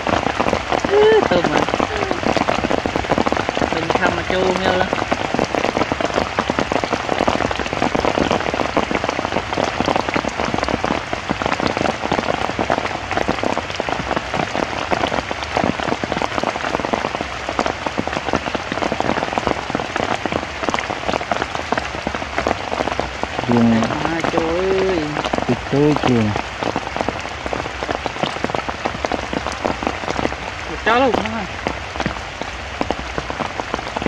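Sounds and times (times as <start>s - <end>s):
heavy rain pattering: 0.0s - 34.0s.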